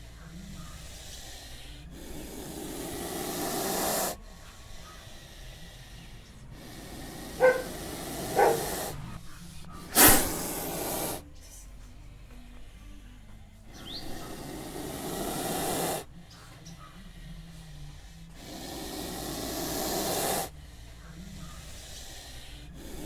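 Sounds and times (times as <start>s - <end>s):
snake hissing: 0.0s - 11.5s, 12.7s - 23.0s.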